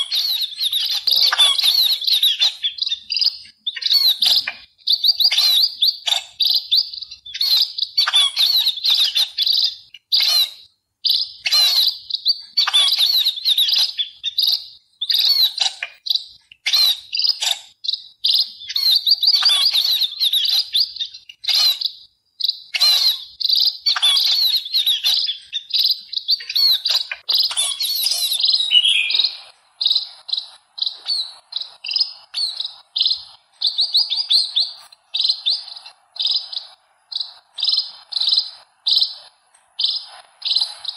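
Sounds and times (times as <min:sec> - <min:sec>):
sparrows chirping: 0:00.0 - 0:40.9.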